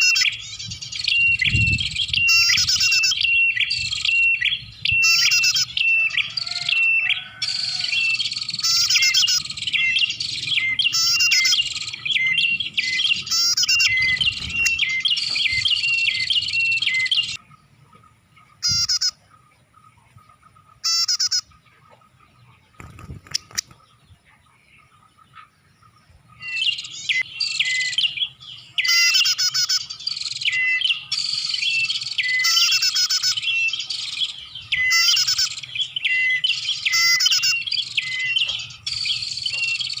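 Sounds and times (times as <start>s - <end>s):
bird high chirping calls: 0.0s - 40.0s.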